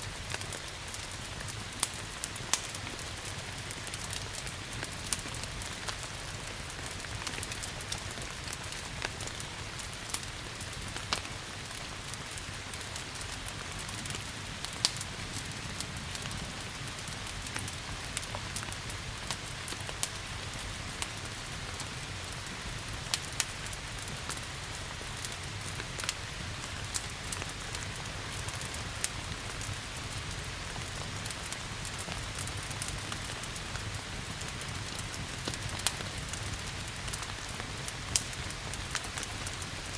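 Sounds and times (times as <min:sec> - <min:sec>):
steady rain hiss: 0:00.0 - 0:39.9
wood fire crackling and popping: 0:00.0 - 0:39.9.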